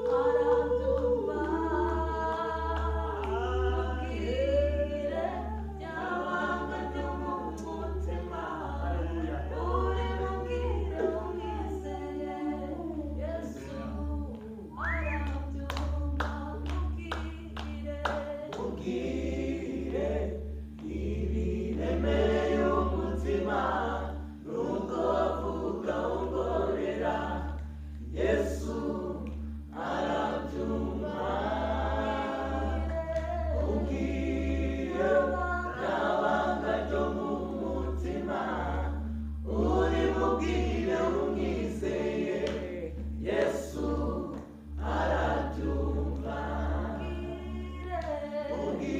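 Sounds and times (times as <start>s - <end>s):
group singing a worship song: 0.0s - 48.9s.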